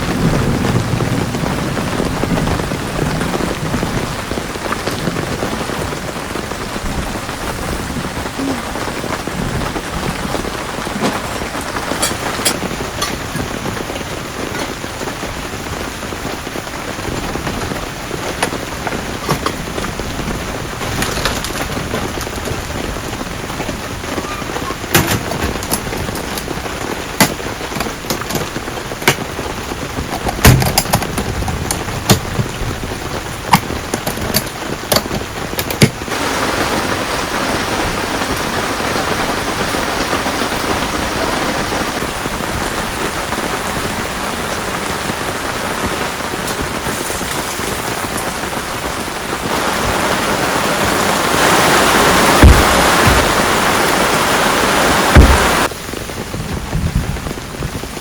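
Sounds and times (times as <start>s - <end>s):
heavy rain hiss: 0.0s - 58.0s
sharp raindrop impacts: 0.0s - 58.0s.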